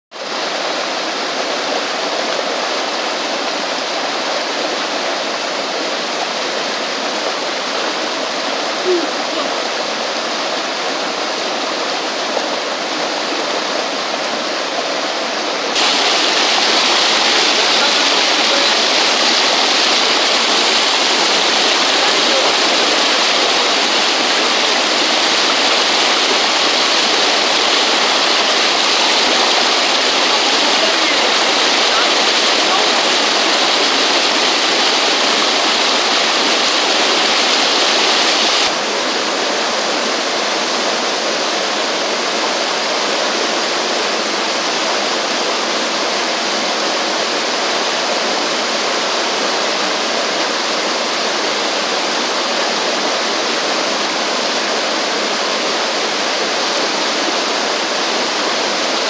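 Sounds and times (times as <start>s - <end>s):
stream rushing over boulders: 0.1s - 59.0s.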